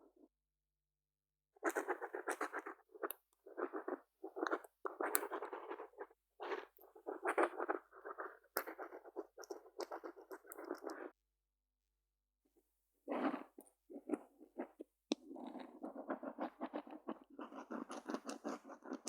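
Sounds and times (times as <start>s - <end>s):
pen scratching on paper: 1.6s - 11.1s, 13.1s - 19.0s.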